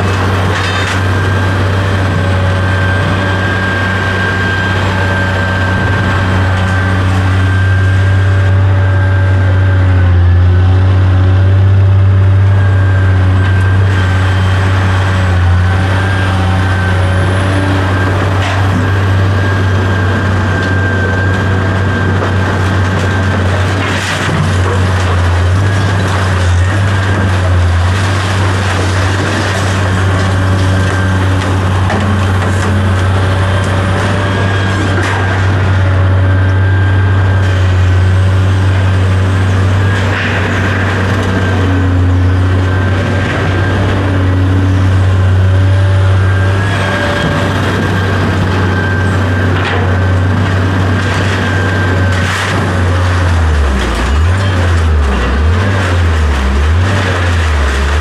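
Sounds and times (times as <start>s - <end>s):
large vehicle engine droning: 0.0s - 58.0s.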